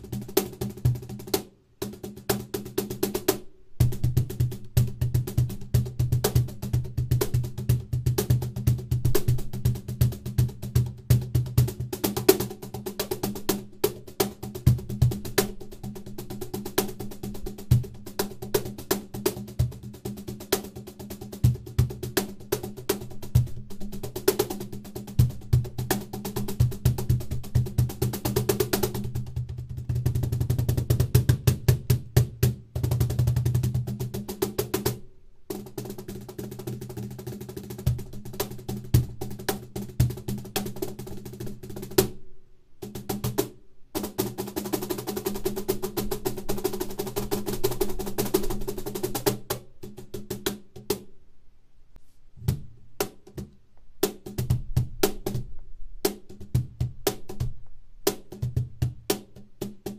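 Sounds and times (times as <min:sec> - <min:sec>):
cajon bass strokes and slaps: 0:00.0 - 0:42.2, 0:42.8 - 0:51.1, 0:52.0 - 0:59.9.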